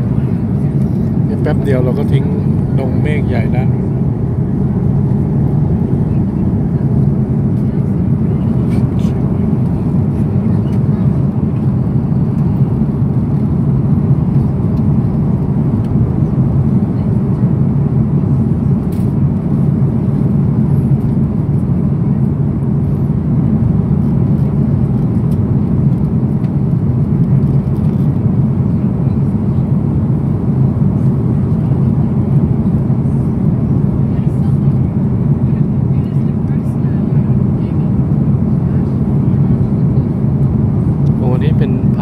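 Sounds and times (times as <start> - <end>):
airliner cabin engine noise: 0.0 - 42.0.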